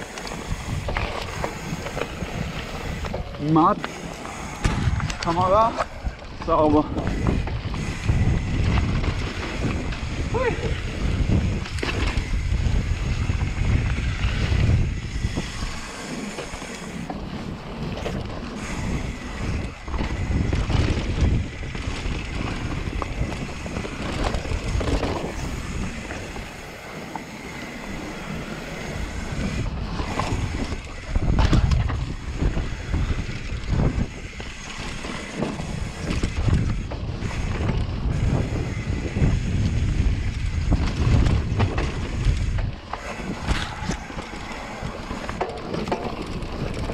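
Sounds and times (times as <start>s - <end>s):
bike rattling and knocking: 0.0s - 46.9s
bike tyres on dirt: 0.0s - 46.9s
wind rushing over microphone: 0.0s - 46.9s.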